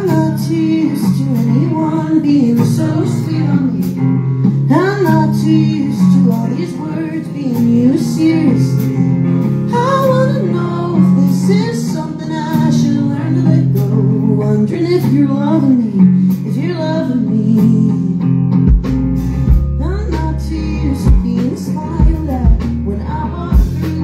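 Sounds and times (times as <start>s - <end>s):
woman singing: 0.0s - 18.6s, 19.8s - 24.0s
electric guitars: 0.0s - 24.0s.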